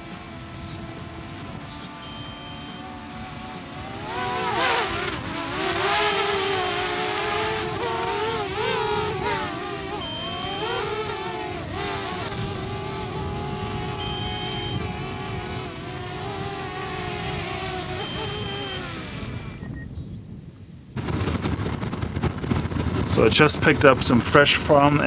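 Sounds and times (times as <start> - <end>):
drone propellers whining: 0.0 - 22.2.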